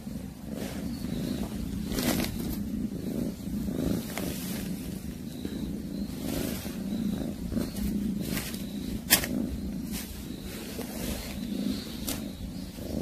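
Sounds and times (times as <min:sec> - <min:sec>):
cat low rumbling: 0:00.0 - 0:13.0.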